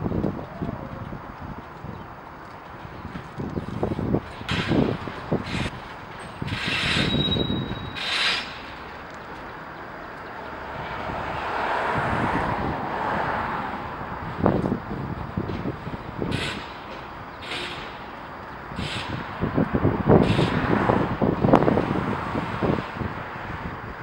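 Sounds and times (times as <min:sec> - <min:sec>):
freight cars clanking and rattling: 0:01.1 - 0:11.0, 0:14.1 - 0:23.6.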